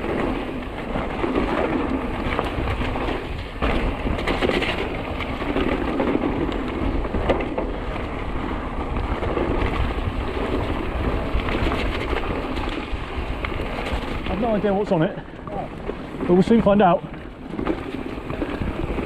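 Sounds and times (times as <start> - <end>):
bike clattering rattles: 0.0 - 19.0
bike tyres over dirt and stones: 0.0 - 19.0
wind buffeting microphone: 0.0 - 19.0.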